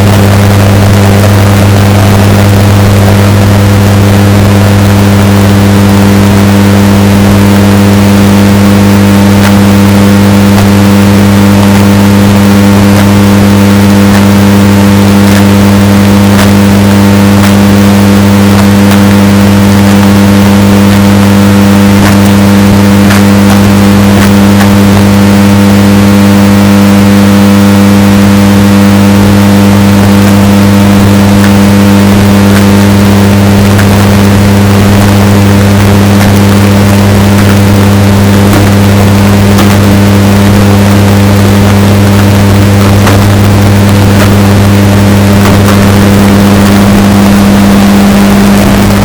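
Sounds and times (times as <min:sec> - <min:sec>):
distorted washing machine hum: 0:00.0 - 0:49.0.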